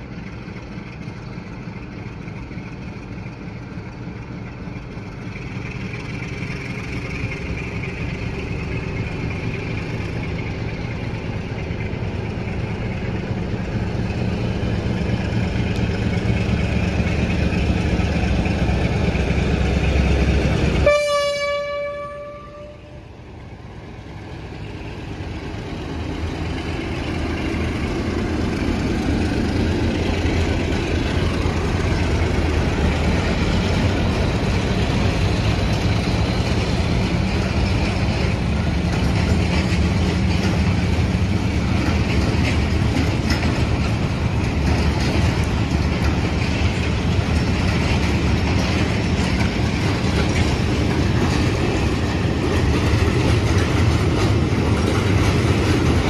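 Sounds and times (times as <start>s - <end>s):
diesel train rumbling: 0.0s - 56.0s
train wheel clatter: 0.0s - 56.0s.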